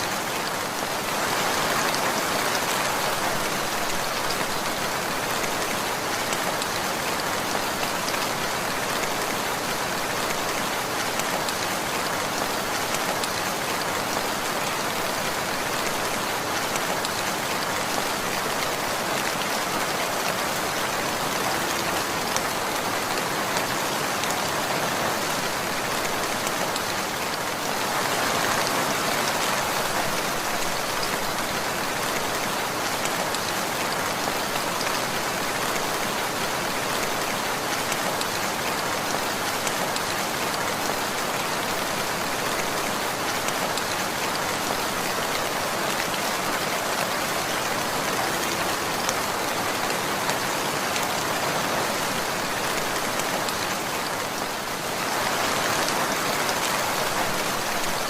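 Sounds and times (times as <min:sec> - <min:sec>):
steady rainfall patter: 0:00.0 - 0:58.0.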